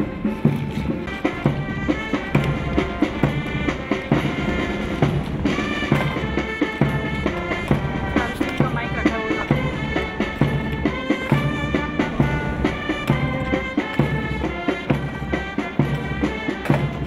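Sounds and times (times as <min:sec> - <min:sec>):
band music: 0:00.0 - 0:17.0
bass drum and snare beat: 0:00.0 - 0:17.0.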